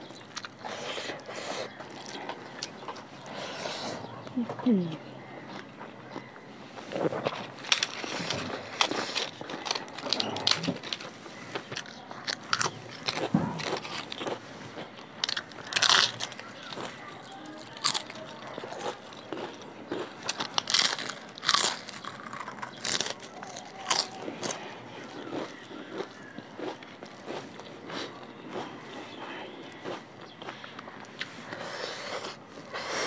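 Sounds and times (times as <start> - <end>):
crisp food crunching: 0.0 - 3.4, 5.2 - 33.0
chewing and wet mouth noises: 0.0 - 33.0.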